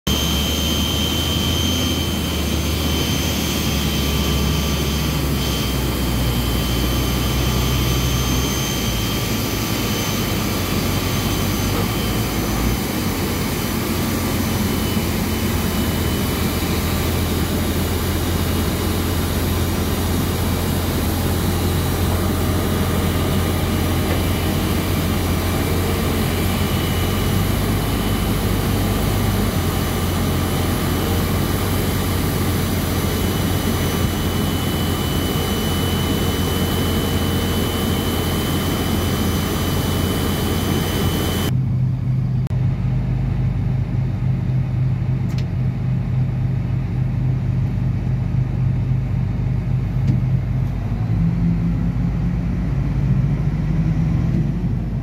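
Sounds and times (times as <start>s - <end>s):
aircraft tug engine drone: 0.1s - 55.0s
high turbine whine: 0.1s - 55.0s.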